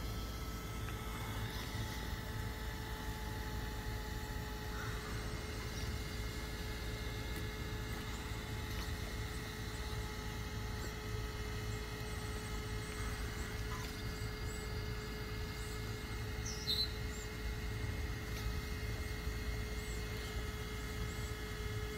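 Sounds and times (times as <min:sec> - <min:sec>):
low hum and rumble: 0:00.0 - 0:21.9.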